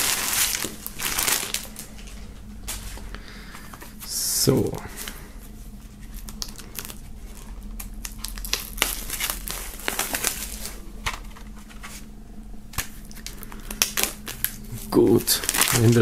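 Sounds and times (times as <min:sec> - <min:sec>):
plastic wrap crinkling: 0:00.0 - 0:12.1, 0:12.7 - 0:16.0.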